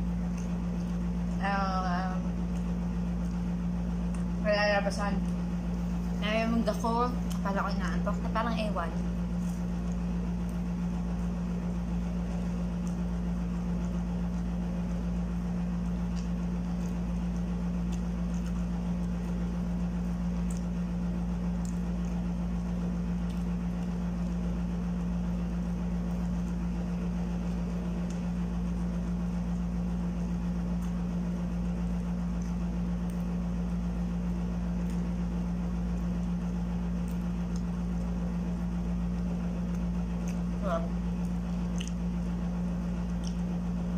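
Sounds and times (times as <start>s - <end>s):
chewing clicks: 0.0s - 1.4s, 2.4s - 4.4s, 9.4s - 43.9s
steady low hum: 0.0s - 43.9s.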